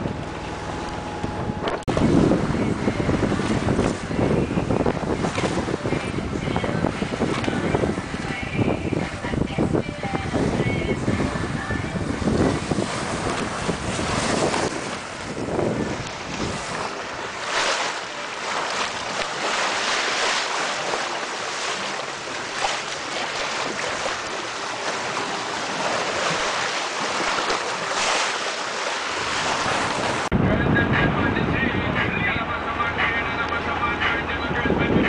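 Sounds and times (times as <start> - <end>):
water rushing along a hull: 0.0 - 35.0
wind rumble on microphone: 0.0 - 35.0.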